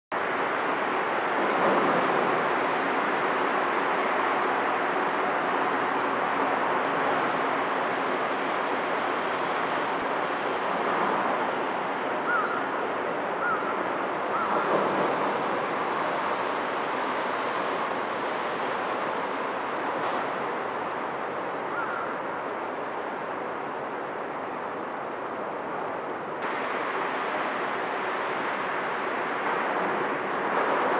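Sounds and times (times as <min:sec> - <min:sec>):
wind: 0:00.1 - 0:30.9
waves: 0:00.2 - 0:30.9.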